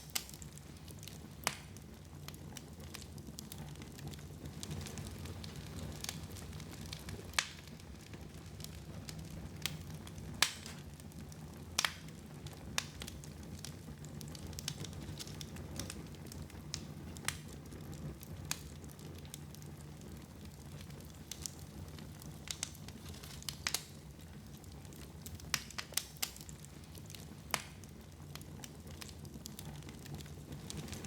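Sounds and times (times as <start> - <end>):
sharp fire pops: 0.0 - 31.0
wood fire crackling: 0.0 - 31.0.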